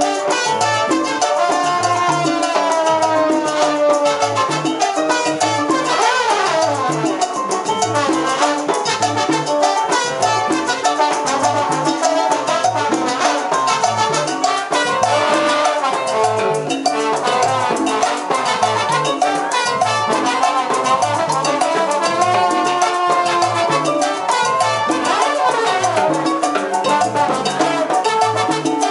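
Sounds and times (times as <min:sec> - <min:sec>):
congas and timbales: 0:00.0 - 0:28.9
trombone and trumpet: 0:00.0 - 0:28.9
bass line: 0:01.7 - 0:07.2, 0:07.8 - 0:28.8.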